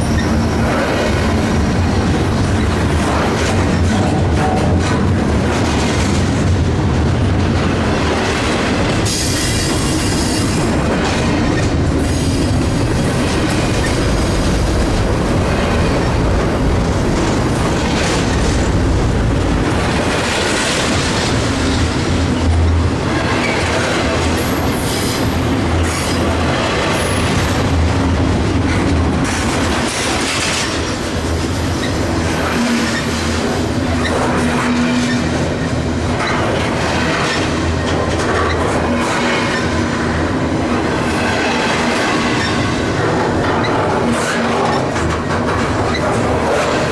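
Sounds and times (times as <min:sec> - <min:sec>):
clickety-clack over rail joints: 0:00.0 - 0:46.9
freight train wheels rumbling: 0:00.0 - 0:46.9.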